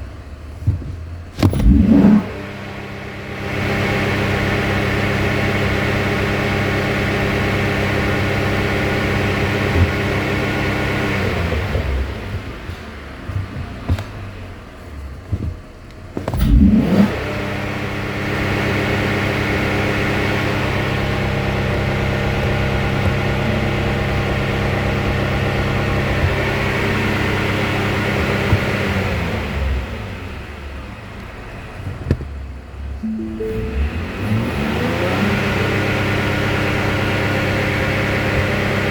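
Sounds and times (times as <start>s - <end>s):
car engine at high revs: 0.2s - 33.2s, 33.8s - 38.9s.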